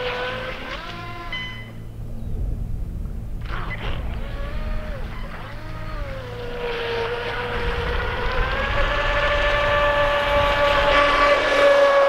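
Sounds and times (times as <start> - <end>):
toy speedboat motor whining: 0.0 - 1.8, 3.4 - 12.0.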